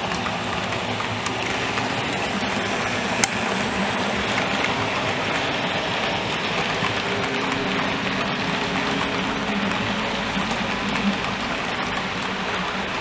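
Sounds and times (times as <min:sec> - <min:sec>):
model train wheels rattling on rail: 0:00.0 - 0:13.0.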